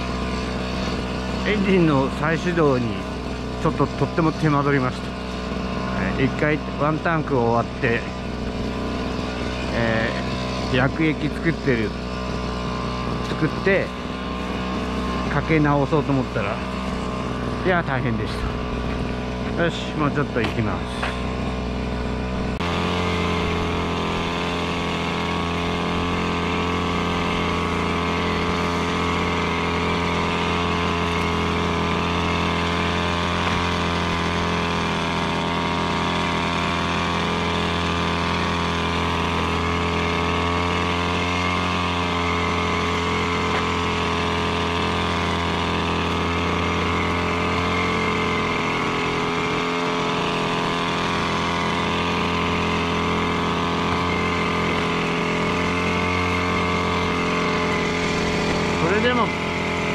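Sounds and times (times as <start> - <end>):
small sprayer engine running: 0.0 - 59.9.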